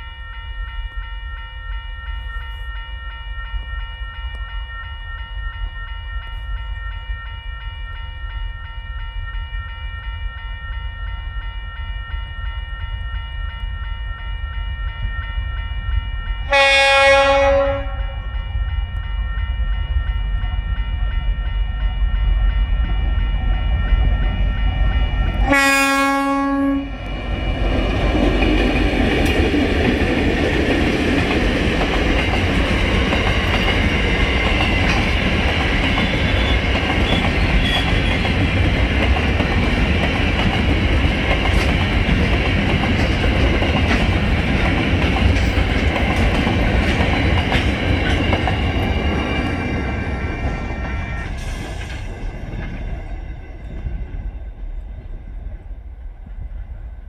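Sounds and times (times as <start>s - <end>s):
diesel locomotive engines: 0.0s - 57.0s
train wheels rumbling on rail: 0.9s - 57.0s.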